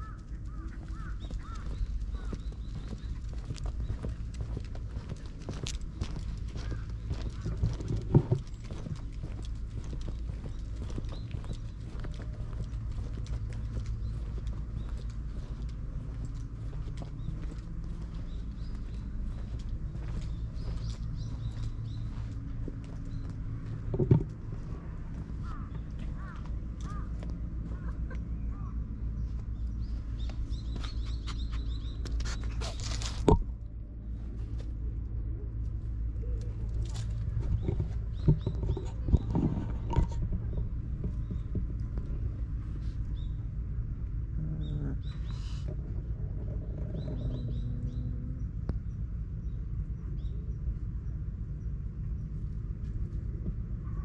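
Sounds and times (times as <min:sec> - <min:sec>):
small birds chirping: 0:00.0 - 0:33.3, 0:35.7 - 0:54.0
steady low rumble: 0:00.0 - 0:54.0.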